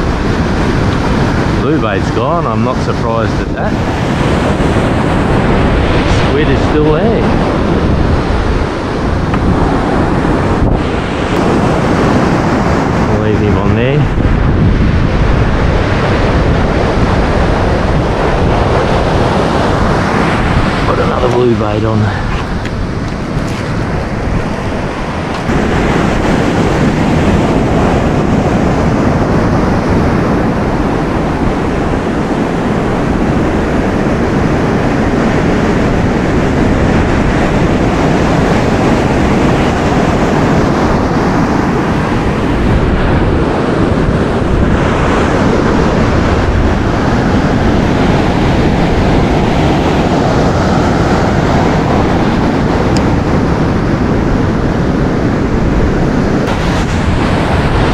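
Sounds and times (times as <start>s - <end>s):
surf breaking on beach: 0.0s - 57.9s
wind buffeting microphone: 0.0s - 57.9s.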